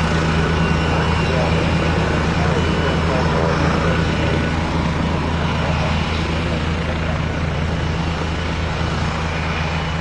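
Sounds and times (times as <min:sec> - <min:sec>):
helicopter rotor and turbine drone: 0:00.0 - 0:10.0.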